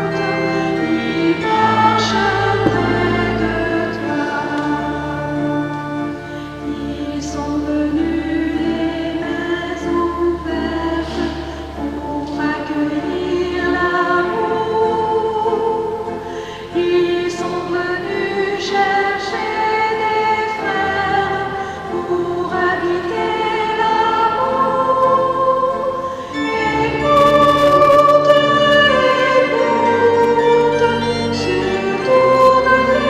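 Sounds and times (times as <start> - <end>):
choir singing a hymn: 0.0 - 33.0
organ chords: 0.0 - 33.0.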